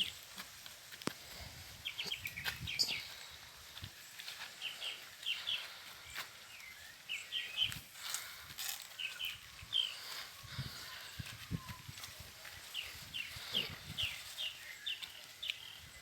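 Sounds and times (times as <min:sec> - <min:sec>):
rustling: 0:00.0 - 0:15.6
birds chirping: 0:01.2 - 0:16.0.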